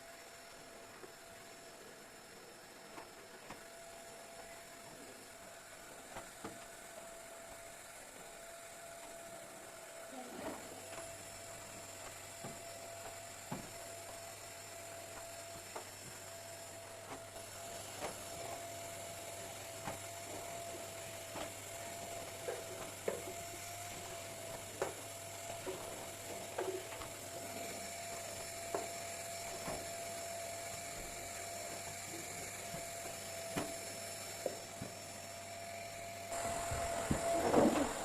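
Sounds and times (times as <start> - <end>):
small electric motor whining: 0.0 - 38.0.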